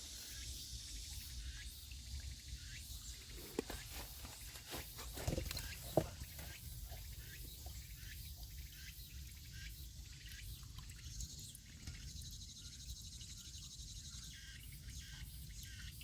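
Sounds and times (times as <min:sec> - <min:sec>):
insect trill: 0:00.0 - 0:16.0.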